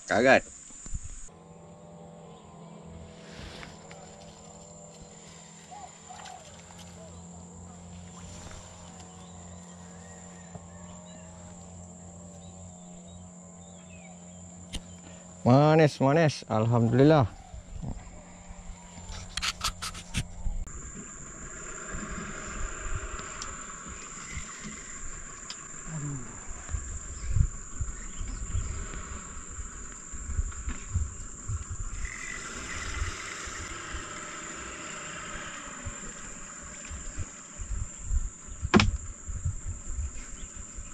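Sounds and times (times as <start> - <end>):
high-pitched insect drone: 0.0 - 40.9.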